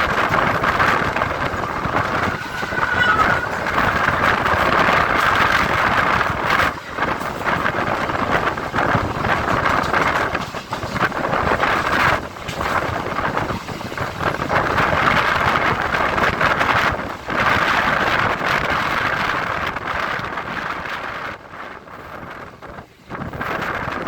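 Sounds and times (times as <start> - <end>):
train running at speed: 0.0 - 24.0
wind on microphone: 0.0 - 24.0.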